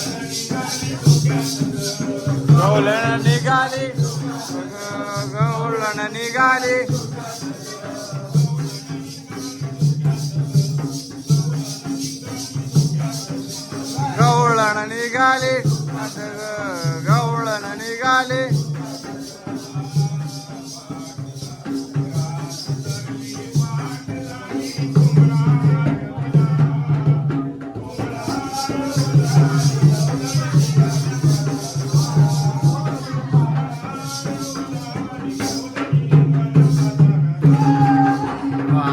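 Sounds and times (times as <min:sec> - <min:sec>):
metallic jingling rhythm: 0:00.0 - 0:25.9, 0:27.9 - 0:38.9
drum beat: 0:00.0 - 0:38.9.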